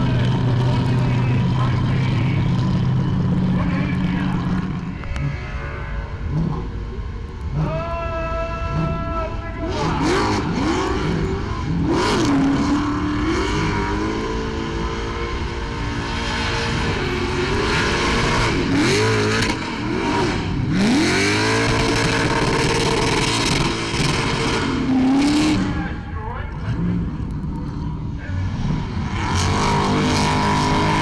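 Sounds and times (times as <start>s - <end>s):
car engine revving: 0.0s - 7.8s, 8.5s - 31.0s.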